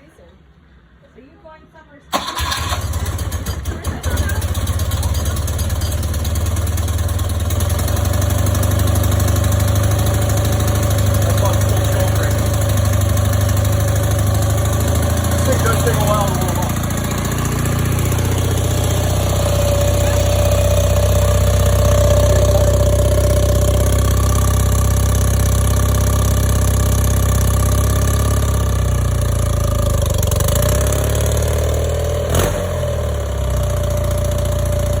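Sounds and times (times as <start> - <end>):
motorcycle engine idling: 2.2 - 35.0.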